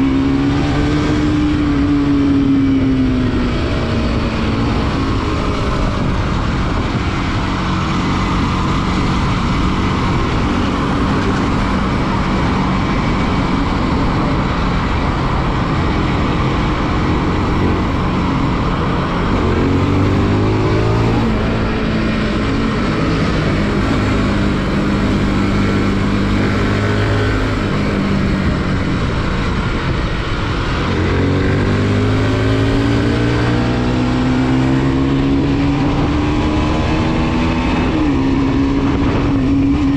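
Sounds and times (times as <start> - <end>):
motorcycle engine accelerating: 0.0 - 39.9
wind rushing: 0.4 - 39.9.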